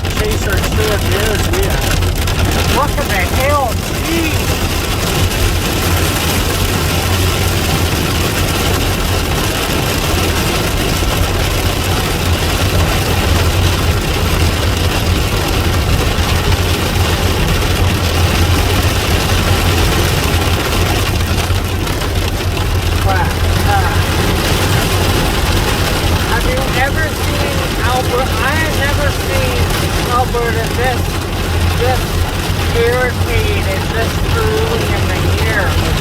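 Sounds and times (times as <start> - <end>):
car engine running: 0.0 - 36.0
rain drumming on car roof: 0.0 - 36.0.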